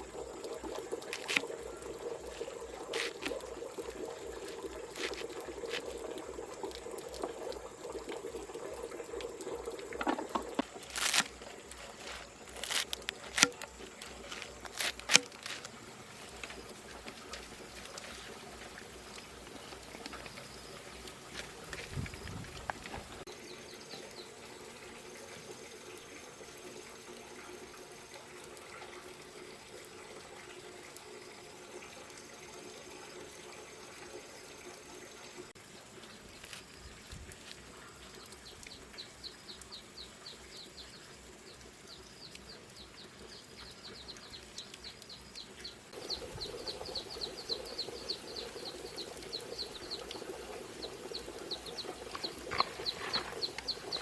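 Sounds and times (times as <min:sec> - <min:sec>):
water running: 0:00.0 - 0:54.0.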